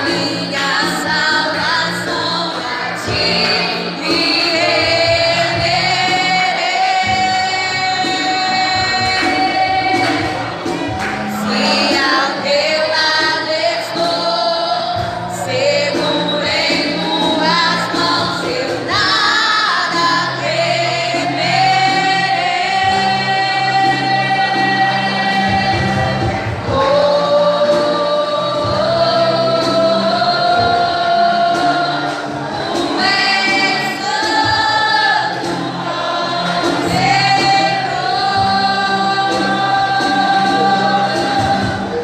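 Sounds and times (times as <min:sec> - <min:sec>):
choir singing: 0:00.0 - 0:42.0
woman singing lead: 0:00.0 - 0:42.0.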